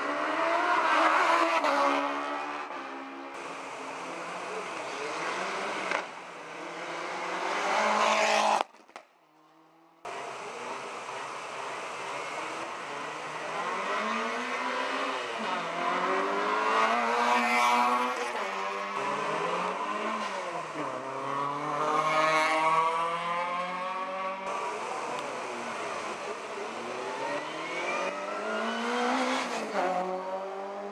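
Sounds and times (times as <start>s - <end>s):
rally car engines revving: 0.0s - 8.7s, 9.3s - 30.9s.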